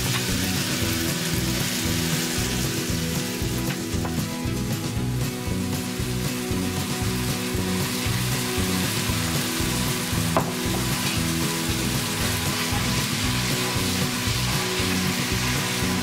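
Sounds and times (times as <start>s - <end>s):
noodles sizzling in frying pan: 0.0s - 16.0s
seasoning being poured: 0.0s - 16.0s.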